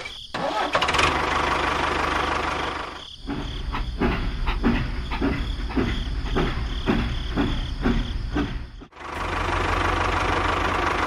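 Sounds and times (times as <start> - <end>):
small engine knocking: 0.4 - 11.0.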